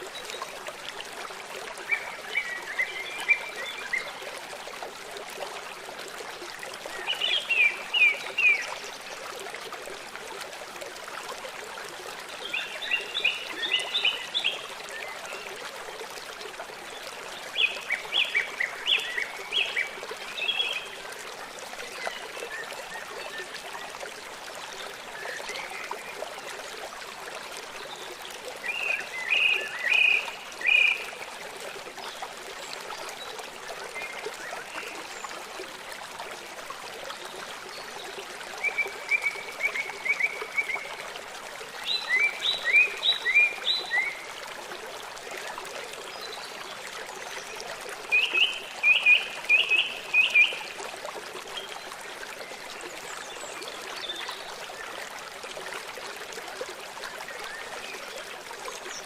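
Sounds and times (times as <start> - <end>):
stream water running: 0.0 - 59.0.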